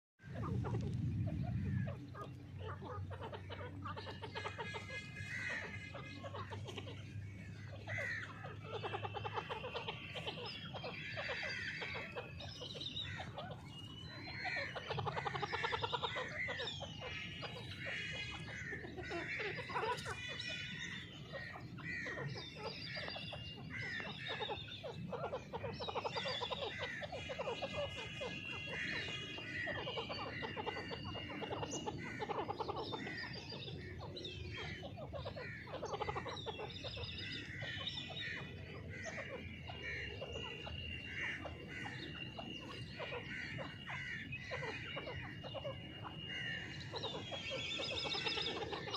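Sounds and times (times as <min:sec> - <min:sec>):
francolins calling: 0:00.2 - 0:48.9.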